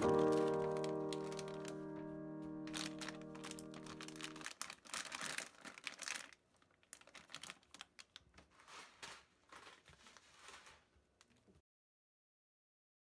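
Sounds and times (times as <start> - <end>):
faint crinkling and rustling: 0.0 - 11.6.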